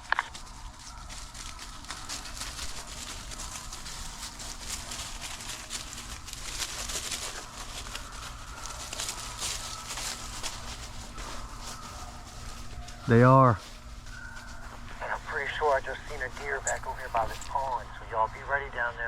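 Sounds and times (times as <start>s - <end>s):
crackling rustle: 0.0s - 19.0s
distant hounds baying: 0.0s - 19.0s.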